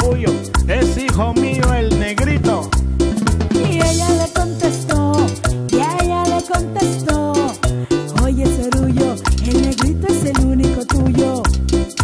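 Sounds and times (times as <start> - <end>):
instrumental cumbia band music: 0.0 - 12.0
keyboard melody with gliding notes: 0.0 - 12.0.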